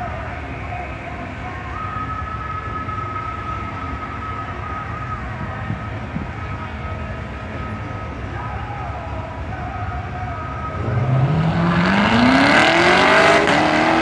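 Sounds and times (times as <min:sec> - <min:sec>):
car engines idling: 0:00.0 - 0:14.0
high whine: 0:00.0 - 0:14.0.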